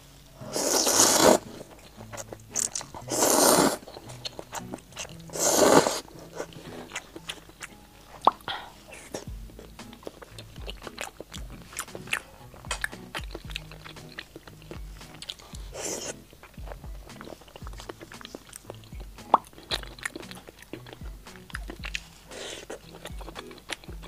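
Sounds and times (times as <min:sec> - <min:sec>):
background music: 0:00.0 - 0:24.0
crunchy chewing: 0:00.4 - 0:24.0.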